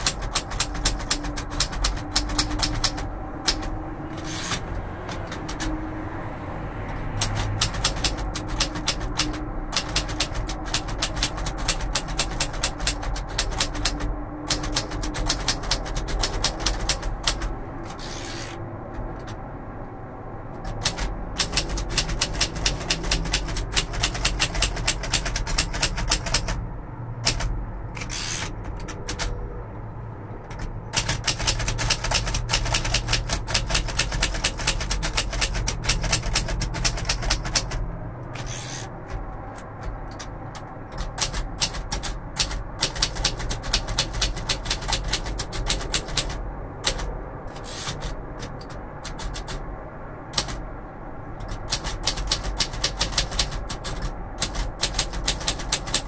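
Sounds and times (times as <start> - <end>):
typewriter carriage return: 0.0 - 5.8, 6.9 - 19.4, 20.6 - 26.6, 27.2 - 29.5, 30.4 - 49.7, 50.3 - 50.7, 51.4 - 56.0
typewriter key clacks: 0.0 - 5.8, 7.2 - 18.6, 20.6 - 26.6, 27.2 - 29.4, 30.5 - 49.6, 50.3 - 50.6, 51.4 - 56.0.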